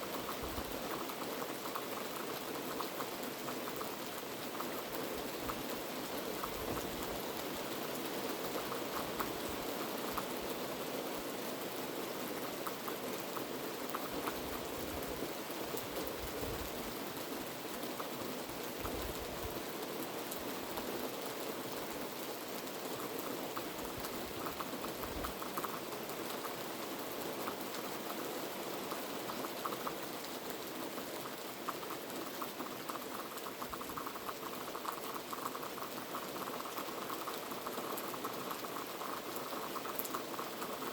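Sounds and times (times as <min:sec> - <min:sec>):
heavy rain on hard surfaces: 0:00.0 - 0:40.9.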